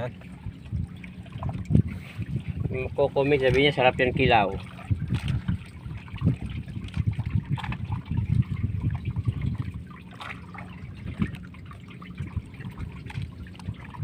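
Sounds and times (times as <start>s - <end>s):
water trickling and dripping: 0.0s - 14.0s.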